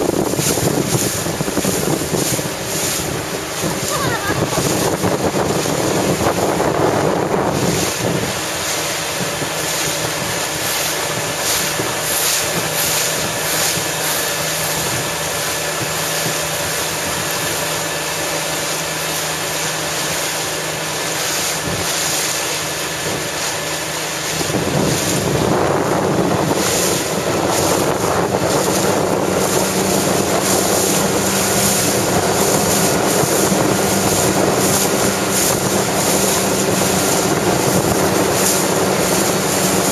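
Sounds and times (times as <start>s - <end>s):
boat engine hum: 0.0s - 39.9s
choppy water: 0.0s - 39.9s
wind buffeting microphone: 0.0s - 39.9s.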